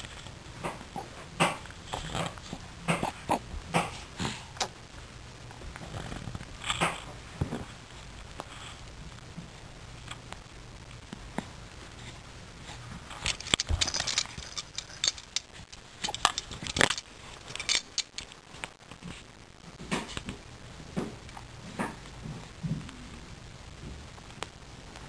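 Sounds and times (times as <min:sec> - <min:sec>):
rustling and crinkling handling noise: 0:00.0 - 0:23.0.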